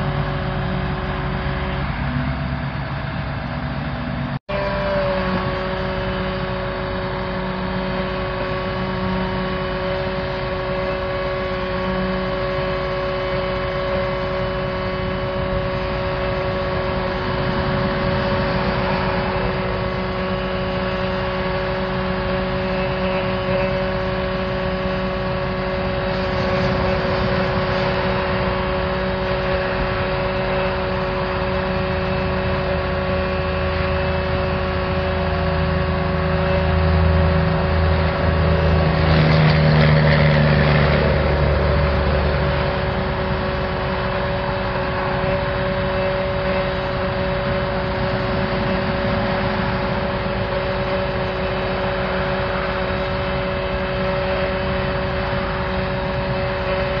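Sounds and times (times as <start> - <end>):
constant machine whine: 0.0 - 57.0
engine-driven machinery running: 0.0 - 57.0.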